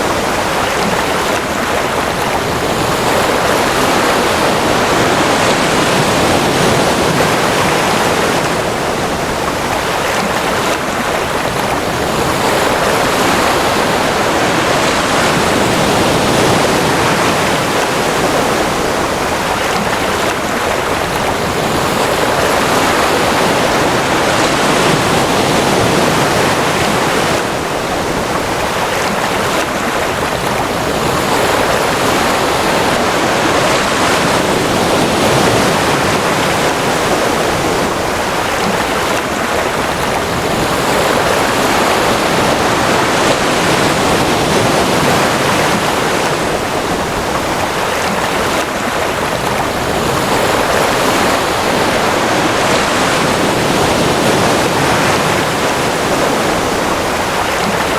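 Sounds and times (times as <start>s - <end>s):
ocean waves breaking: 0.0s - 57.9s.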